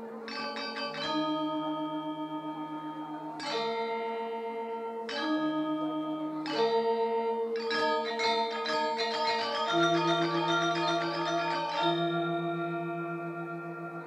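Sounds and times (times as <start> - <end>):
gamelan metallophones ringing: 0.0 - 14.0.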